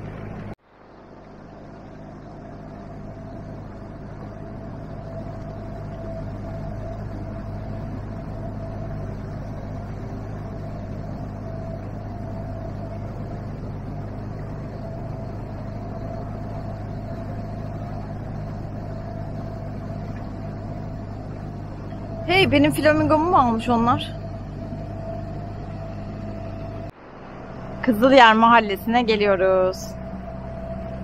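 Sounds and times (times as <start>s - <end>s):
outboard motor droning: 0.0s - 31.0s
thin steady whine: 0.0s - 31.0s.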